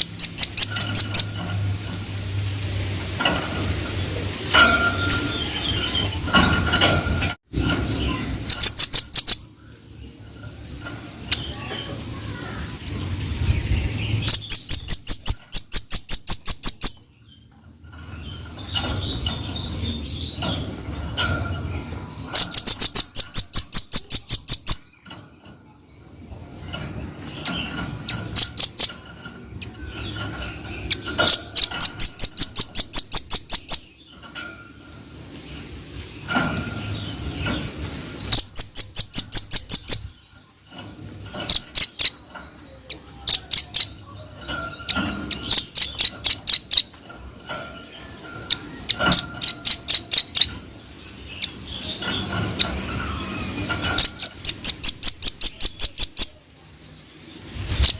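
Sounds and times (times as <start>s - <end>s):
bird singing high sharp notes: 0.0s - 2.0s, 7.7s - 37.6s, 38.2s - 40.4s, 41.3s - 56.4s
bird chattering calls: 0.0s - 2.1s, 7.8s - 56.5s.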